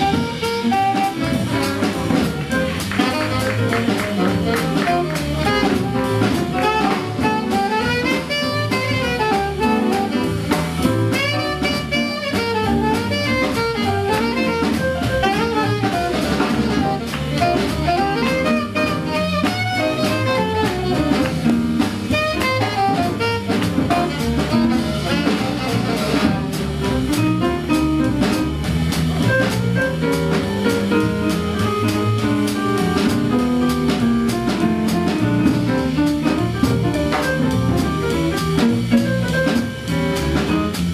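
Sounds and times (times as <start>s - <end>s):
swing jazz band playing: 0.0s - 40.9s.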